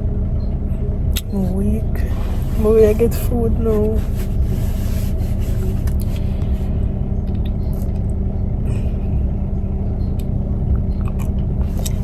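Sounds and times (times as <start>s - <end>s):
car rumbling inside cabin: 0.0s - 12.0s
constant low hum: 0.0s - 12.0s.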